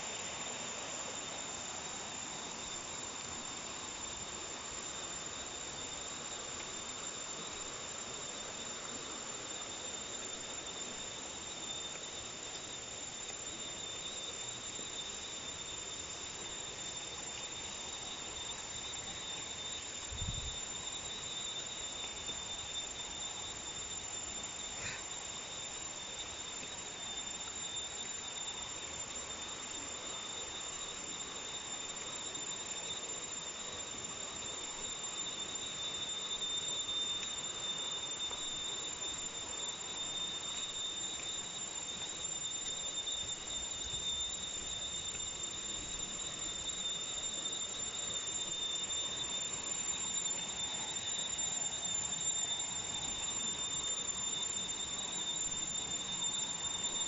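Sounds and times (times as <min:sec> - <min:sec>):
shrill insect drone: 0:00.0 - 0:57.0.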